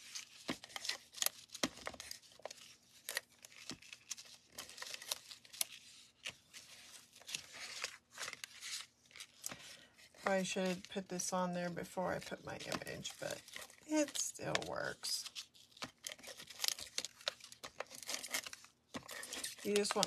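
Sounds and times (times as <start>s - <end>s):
paper rustling: 0.0s - 20.0s.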